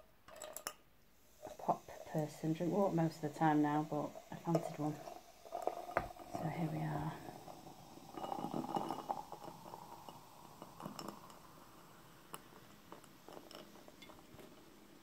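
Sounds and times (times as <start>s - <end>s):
soda pouring and fizzing: 0.3s - 15.0s.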